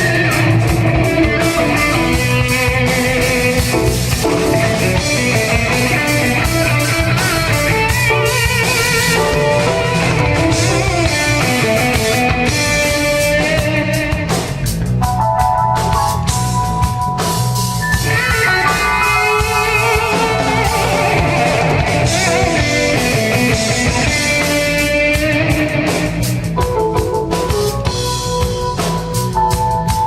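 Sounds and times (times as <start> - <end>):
bending melodic lead line: 0.0 - 30.0
jazz fusion band playing: 0.0 - 30.0.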